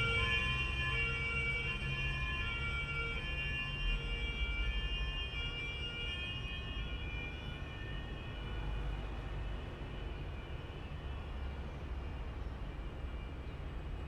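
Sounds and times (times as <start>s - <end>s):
road noise rumble: 0.0s - 14.0s
two-tone ambulance siren: 0.0s - 14.0s.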